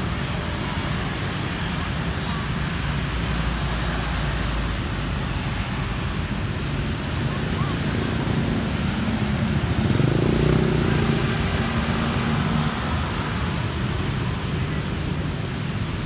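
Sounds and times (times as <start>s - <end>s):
traffic hiss: 0.0s - 16.0s
engine passing by: 3.0s - 16.0s.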